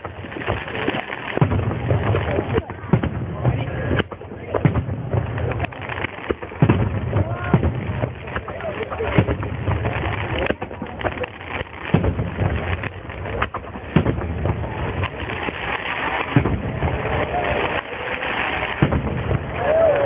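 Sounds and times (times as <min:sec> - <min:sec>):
crowd noise: 0:00.0 - 0:20.0
fireworks booming: 0:00.0 - 0:20.0.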